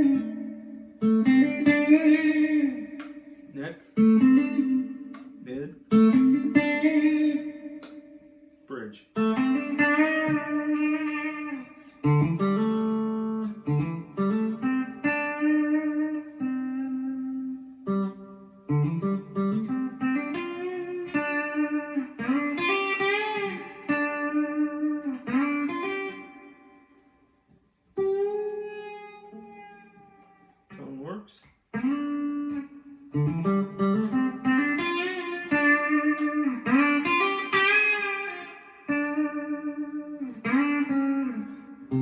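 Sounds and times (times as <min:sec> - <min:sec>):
clean electric guitar melody: 0:00.0 - 0:30.8, 0:31.7 - 0:42.0.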